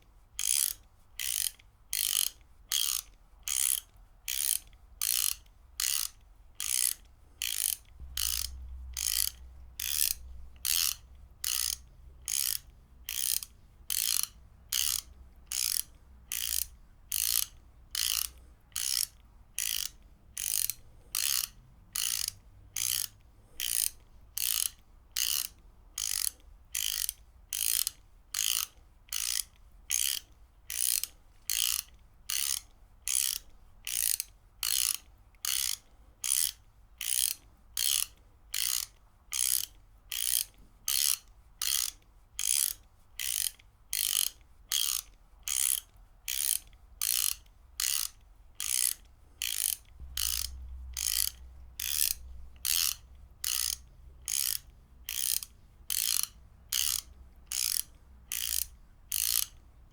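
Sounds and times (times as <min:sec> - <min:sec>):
ratchet wrench clicking: 0:00.4 - 0:59.6.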